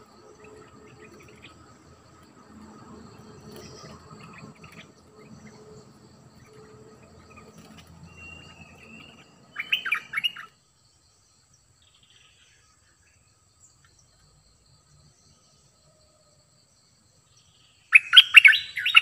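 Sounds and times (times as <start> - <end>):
bird song: 0.0 - 19.0
faint insect hum: 0.0 - 19.0.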